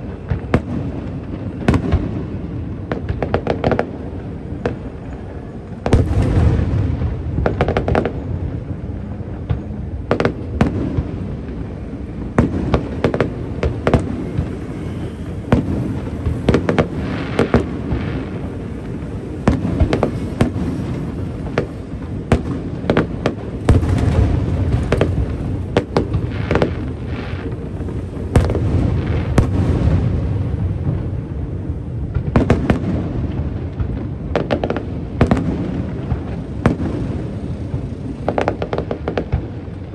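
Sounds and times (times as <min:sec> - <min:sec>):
firework bangs and crackles: 0:00.0 - 0:39.9.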